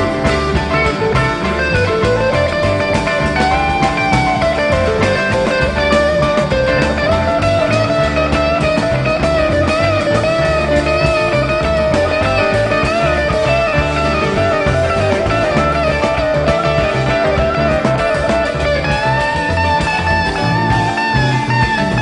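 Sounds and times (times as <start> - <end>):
bass line: 0.0 - 22.0
rock music with electric guitar: 0.0 - 22.0.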